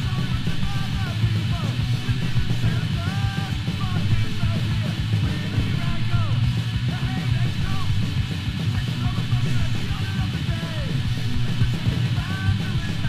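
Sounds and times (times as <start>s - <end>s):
fast hardcore punk band: 0.0s - 13.0s
pounding drum beat: 0.0s - 13.0s.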